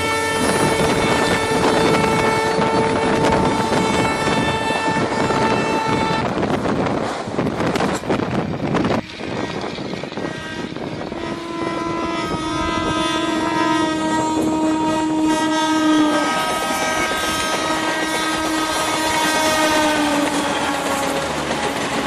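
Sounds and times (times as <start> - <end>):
train horn: 0.0 - 6.9, 10.2 - 22.0
moving train running noise: 0.0 - 22.0.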